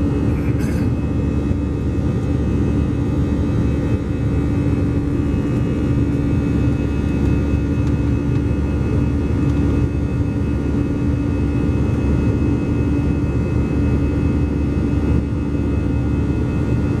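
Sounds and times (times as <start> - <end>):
aircraft cabin engine and airflow noise: 0.0 - 17.0.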